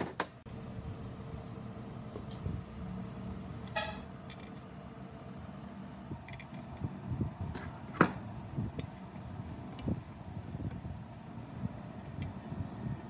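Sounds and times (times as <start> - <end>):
steady low hum: 0.5 - 13.0.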